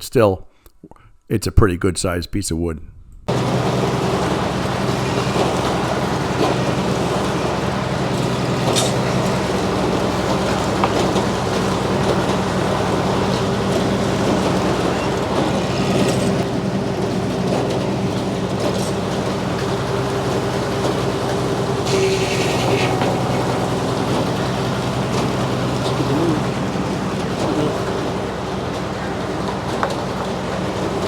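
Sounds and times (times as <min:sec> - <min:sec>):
circular saw cutting log: 0:03.3 - 0:31.0.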